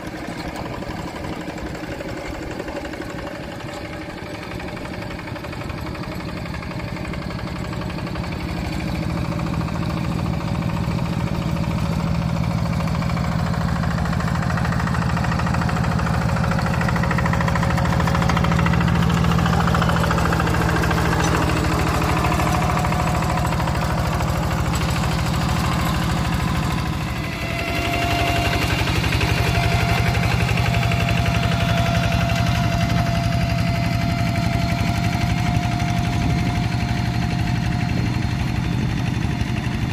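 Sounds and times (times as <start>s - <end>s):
hand tractor diesel engines: 0.0s - 39.9s.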